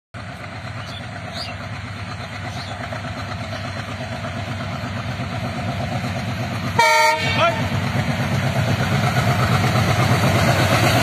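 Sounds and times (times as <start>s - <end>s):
locomotive engine rumble: 0.2s - 11.0s.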